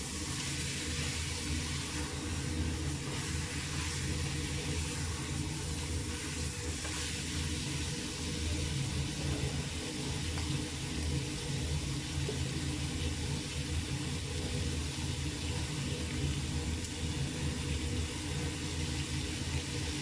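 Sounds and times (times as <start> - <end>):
low steady hum: 0.0 - 20.0
meat frying hiss: 0.0 - 20.0.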